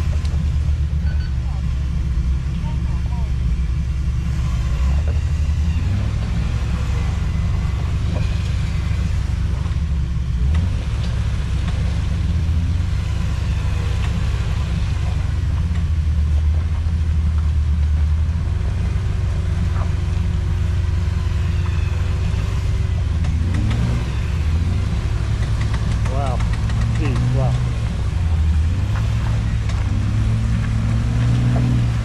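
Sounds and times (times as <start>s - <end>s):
car engine running under load: 0.0s - 32.0s.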